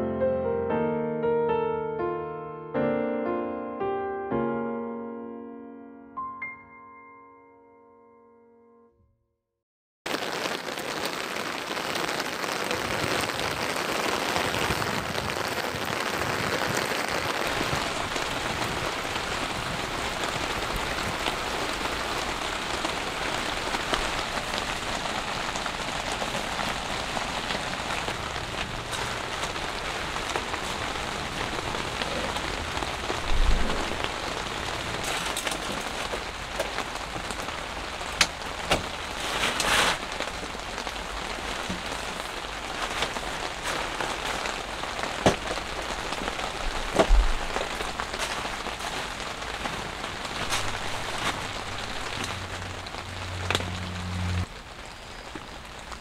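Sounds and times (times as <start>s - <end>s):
rain falling on tent: 10.0s - 56.0s.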